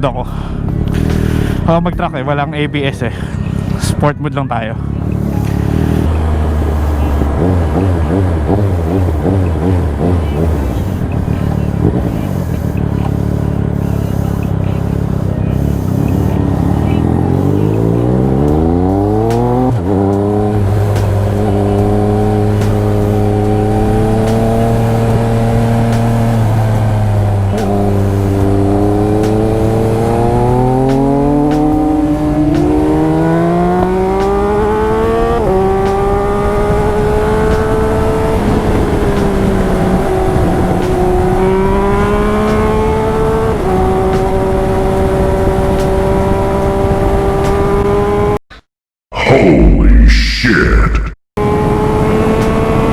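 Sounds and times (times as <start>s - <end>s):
motorcycle engine accelerating: 0.6s - 1.9s, 4.8s - 48.4s, 51.4s - 52.9s.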